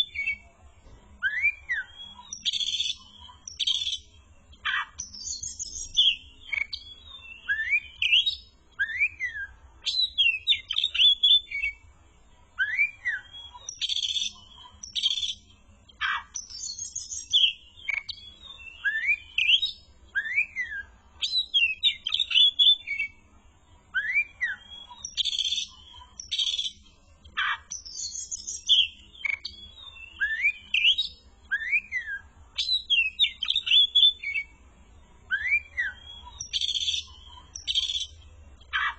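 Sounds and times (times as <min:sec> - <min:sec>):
songbird singing whistled notes: 0:00.0 - 0:11.9, 0:12.5 - 0:34.6, 0:35.2 - 0:38.9.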